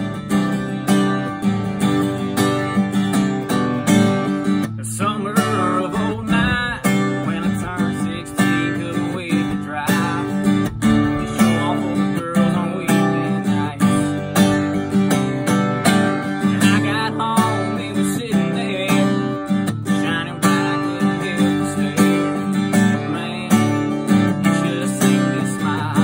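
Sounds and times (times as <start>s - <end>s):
acoustic guitar strummed: 0.0s - 26.0s.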